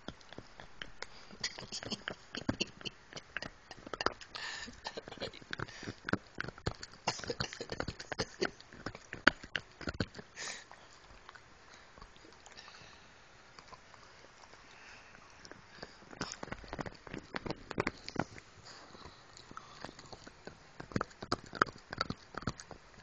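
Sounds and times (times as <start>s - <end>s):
dog gnawing a bone: 0.0s - 23.0s.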